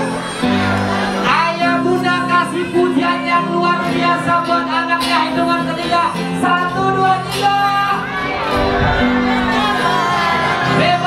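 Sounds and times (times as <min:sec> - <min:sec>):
guitar accompaniment: 0:00.0 - 0:11.0.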